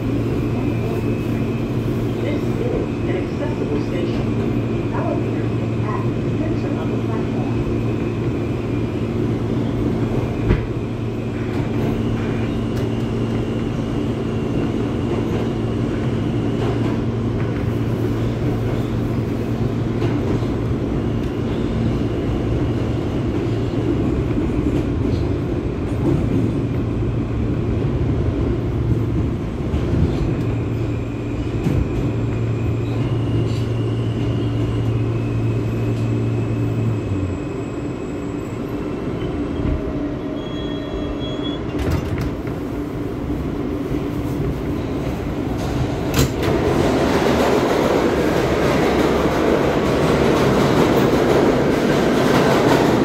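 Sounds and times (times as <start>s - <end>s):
low droning train hum: 0.0s - 53.0s
wheels rumbling on rail: 0.0s - 53.0s.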